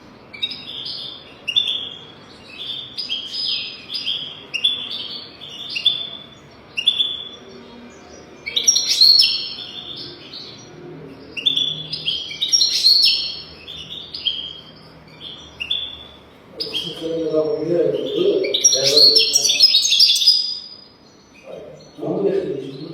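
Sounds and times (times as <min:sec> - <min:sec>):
goldfinch singing: 0:00.3 - 0:22.9.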